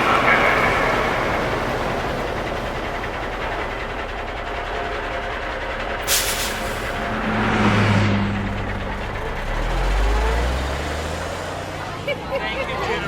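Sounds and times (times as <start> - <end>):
model streetcar rumbling: 0.0 - 13.0.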